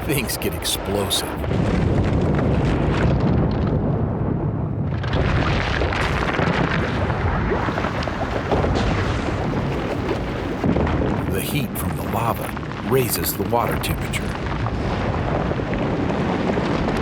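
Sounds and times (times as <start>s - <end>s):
lava crackling and popping: 0.0s - 17.0s.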